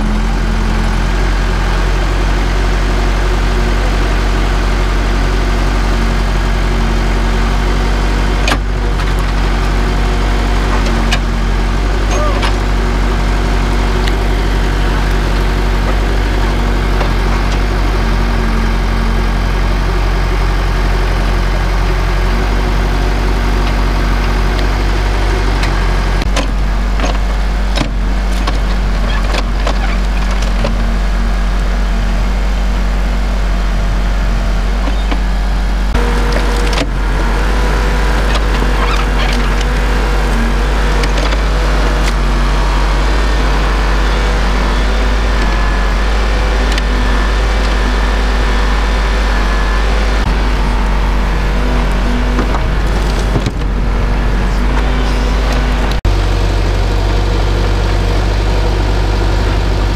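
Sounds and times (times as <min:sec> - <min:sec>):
diesel engine running: 0:00.0 - 0:59.9
hydraulic digging arm working: 0:00.0 - 0:59.9.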